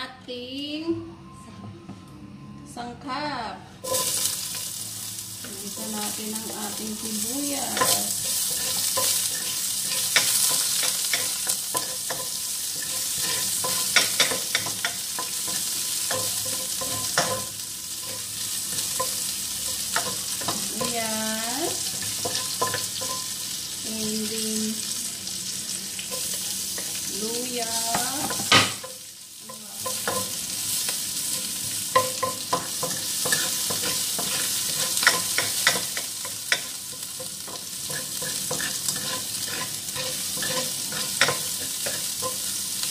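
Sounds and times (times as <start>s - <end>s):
chicken and onion sizzling in oil: 3.8s - 42.9s.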